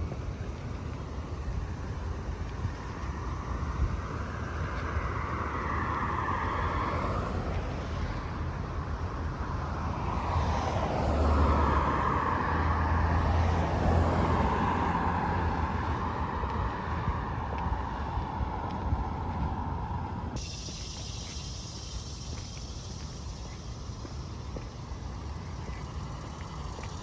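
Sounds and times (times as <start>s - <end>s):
traffic rumble on street: 0.0s - 27.0s.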